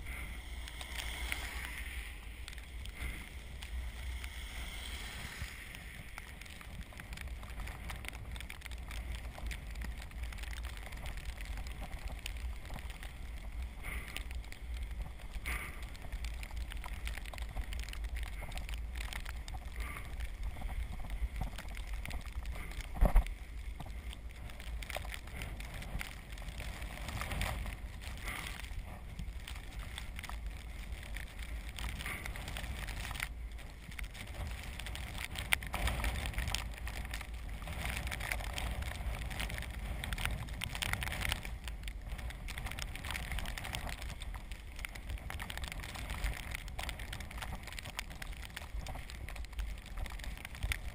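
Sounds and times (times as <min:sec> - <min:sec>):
tyres rolling over snow: 0:00.0 - 0:50.9.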